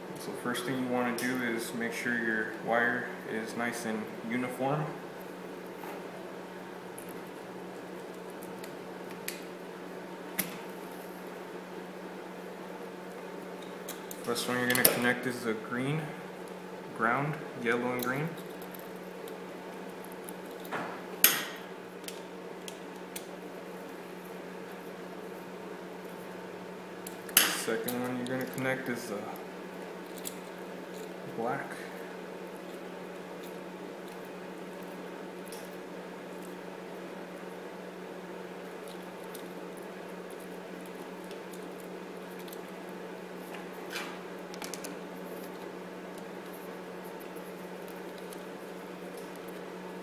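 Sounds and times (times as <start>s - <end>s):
low hum and hiss: 0.0s - 50.0s.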